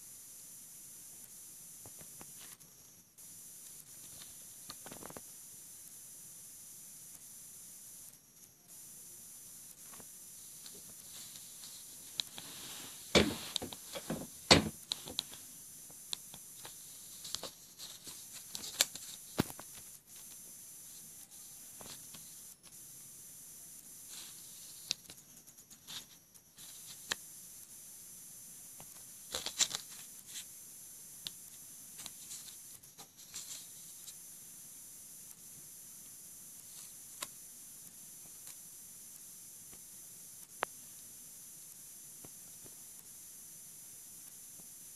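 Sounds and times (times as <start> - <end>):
faint steady hiss: 0.0 - 44.9.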